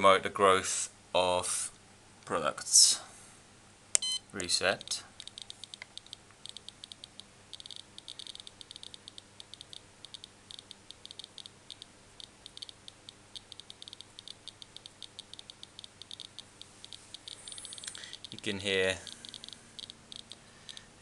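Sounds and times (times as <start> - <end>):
ion counter high-pitched clicks: 4.0 - 20.9.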